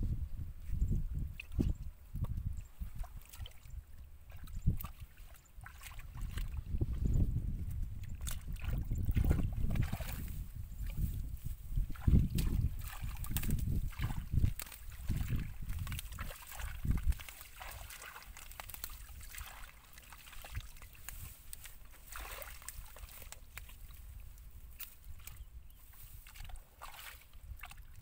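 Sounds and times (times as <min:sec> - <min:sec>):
wind rumble on microphone: 0:00.0 - 0:28.0
water trickling and splashing: 0:01.1 - 0:28.0
hands squelching through mud: 0:01.2 - 0:07.0, 0:07.6 - 0:28.0.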